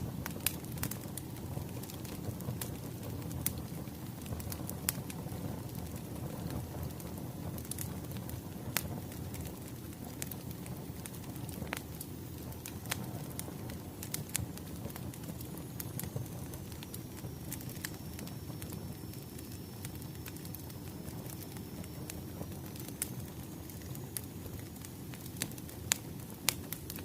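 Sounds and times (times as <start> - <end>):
fire pops and snaps: 0.0 - 27.0
wood fire crackling: 0.0 - 27.0.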